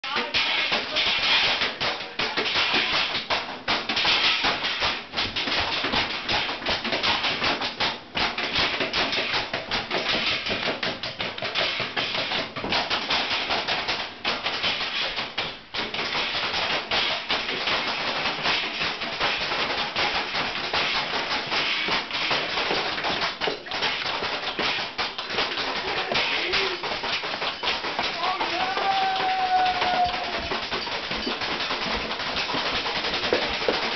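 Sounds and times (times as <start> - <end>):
banging on kitchen objects: 0.0 - 33.9.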